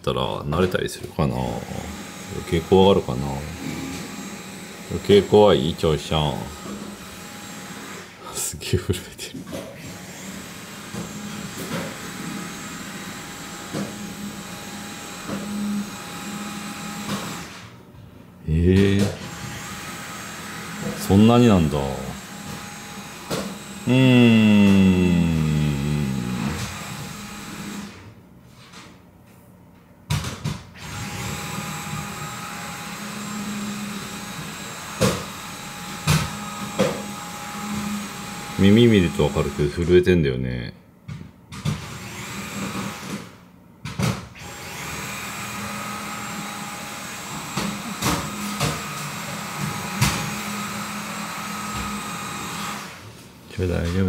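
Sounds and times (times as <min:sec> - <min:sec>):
vacuum cleaner whining: 0:01.2 - 0:08.4, 0:09.4 - 0:17.8, 0:18.5 - 0:28.2, 0:30.8 - 0:40.1, 0:41.7 - 0:43.4, 0:44.4 - 0:54.0.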